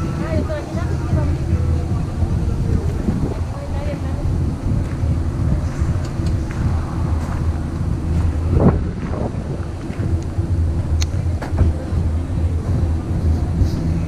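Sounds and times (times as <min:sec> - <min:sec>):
motor droning: 0:00.0 - 0:14.0
wind buffeting microphone: 0:00.0 - 0:14.0.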